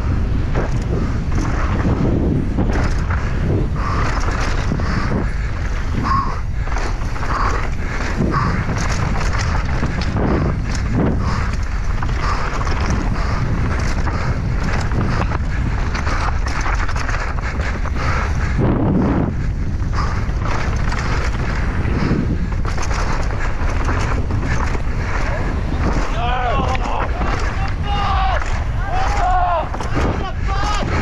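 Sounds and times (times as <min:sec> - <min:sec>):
bike knocks and rattles: 0:00.0 - 0:31.0
steady low rumble: 0:00.0 - 0:31.0
wind buffeting microphone: 0:00.0 - 0:31.0.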